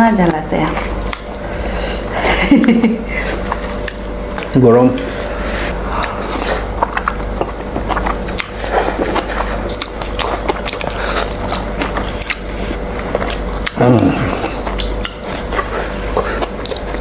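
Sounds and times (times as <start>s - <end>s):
slurping and chewing noodles: 3.1s - 17.0s.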